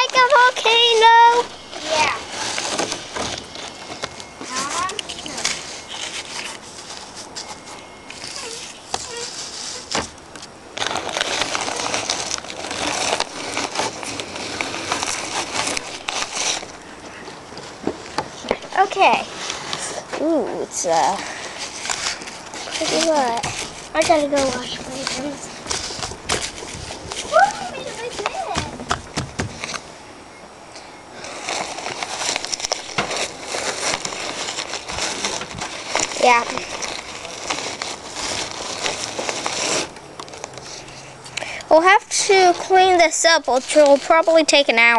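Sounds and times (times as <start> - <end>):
close crackling and crinkling: 0.0 - 30.1, 30.7 - 44.9.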